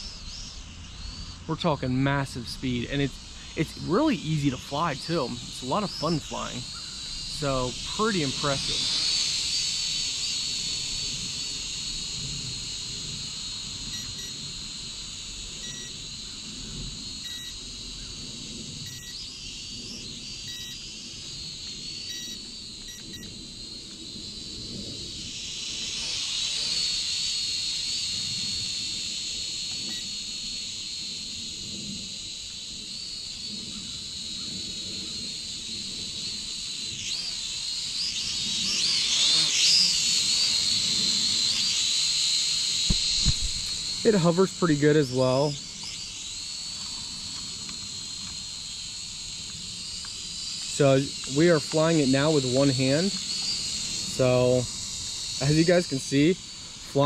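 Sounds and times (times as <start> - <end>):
toy drone propellers whining: 1.1 - 31.8, 36.2 - 57.0.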